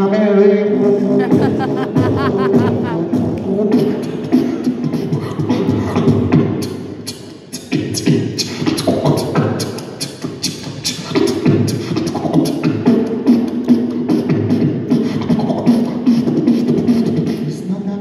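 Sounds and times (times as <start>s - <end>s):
beatboxing through microphone: 0.0s - 18.0s.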